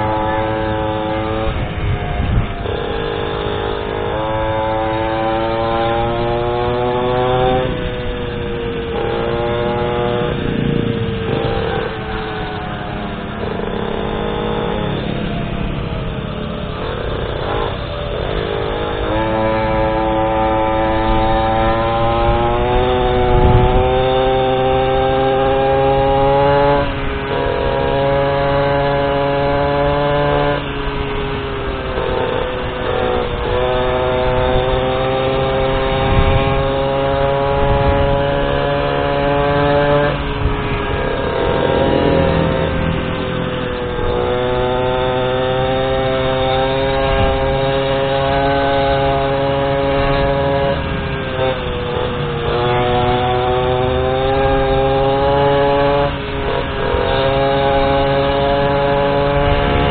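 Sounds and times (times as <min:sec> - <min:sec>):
road and wind noise: 0:00.0 - 0:59.9
small scooter engine revving: 0:00.0 - 0:59.9.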